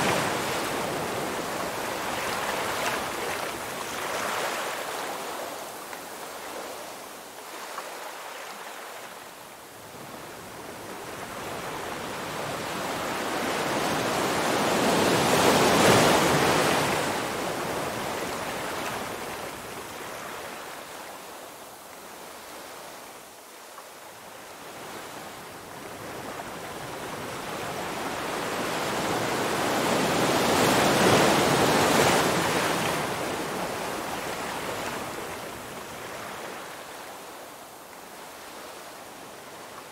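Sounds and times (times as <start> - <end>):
ocean surf on beach: 0.0 - 39.9.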